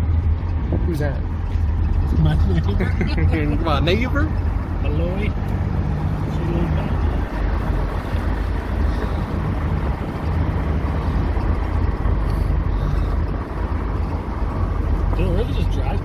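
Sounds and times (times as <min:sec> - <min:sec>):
road and engine noise: 0:00.0 - 0:16.0
wind buffeting microphone: 0:00.0 - 0:16.0
wind rush in moving car: 0:00.0 - 0:16.0.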